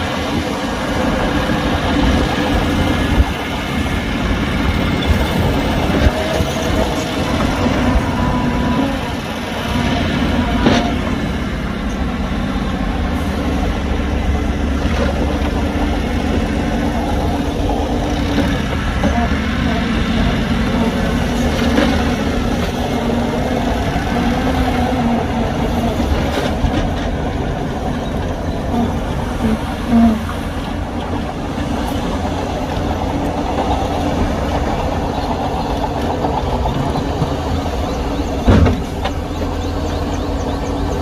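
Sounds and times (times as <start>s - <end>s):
heavy diesel machinery rumbling: 0.0s - 41.0s.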